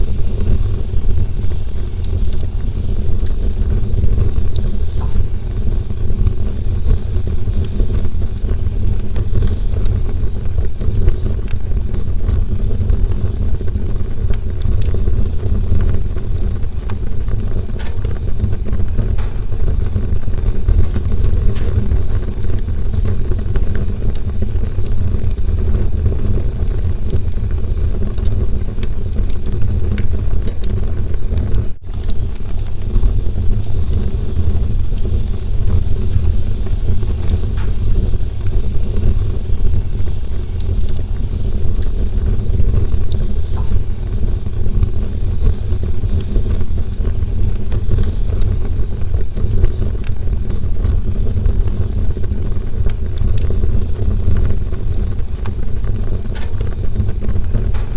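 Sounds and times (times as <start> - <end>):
campfire flames rumbling: 0.0 - 57.9
fire crackles and pops: 0.0 - 57.9.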